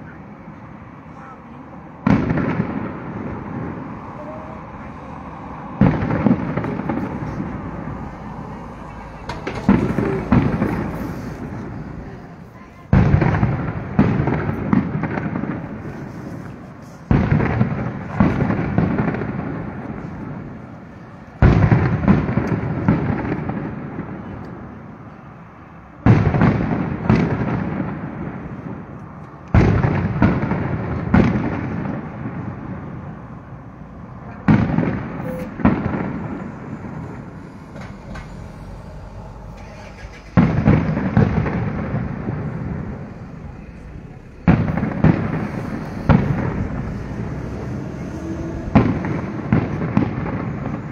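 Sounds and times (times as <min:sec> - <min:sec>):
fireworks crackling: 0:00.0 - 0:25.0, 0:26.0 - 0:50.9
fireworks bursting: 0:01.2 - 0:25.0, 0:26.0 - 0:50.9.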